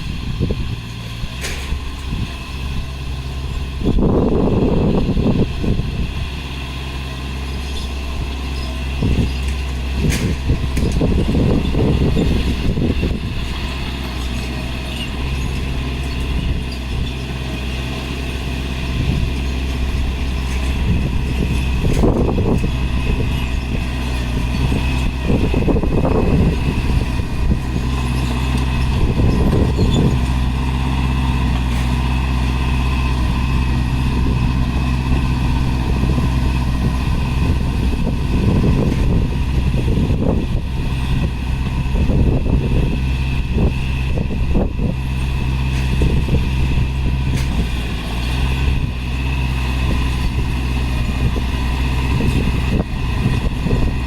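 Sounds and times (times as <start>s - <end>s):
heavy machinery engine drone: 0.0s - 54.0s.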